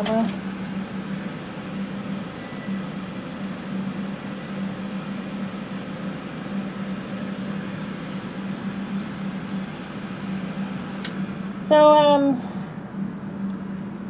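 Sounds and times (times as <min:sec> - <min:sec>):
electric fans humming: 0:00.0 - 0:14.0.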